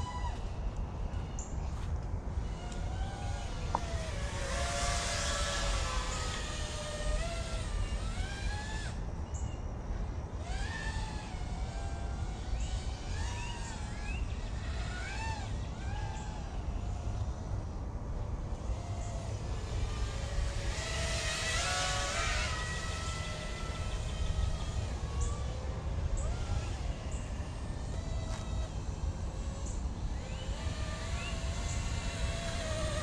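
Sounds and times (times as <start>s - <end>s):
drone motor whine: 0.0s - 33.0s.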